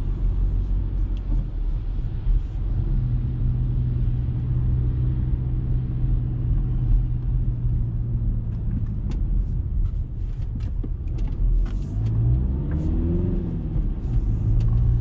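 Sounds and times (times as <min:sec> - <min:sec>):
road noise inside car: 0:00.0 - 0:15.0.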